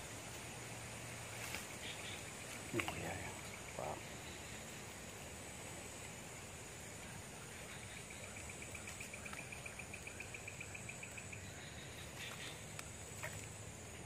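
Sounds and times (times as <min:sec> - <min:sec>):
insect trilling: 0:00.0 - 0:14.0
steady high insect hum: 0:00.0 - 0:14.0.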